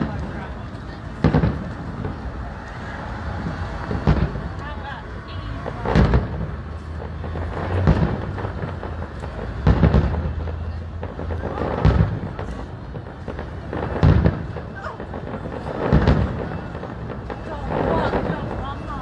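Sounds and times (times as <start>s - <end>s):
fireworks bursting with deep booms: 0.0s - 19.0s.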